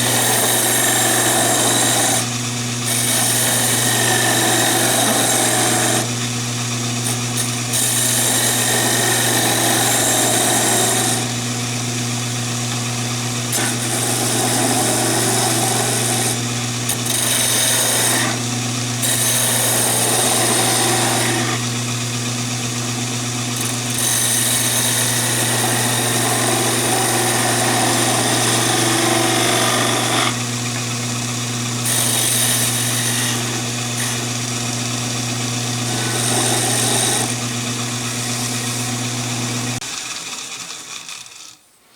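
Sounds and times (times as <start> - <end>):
hiss of turning tool cutting wood: 0.0 - 41.4
wood lathe motor hum: 0.0 - 41.6.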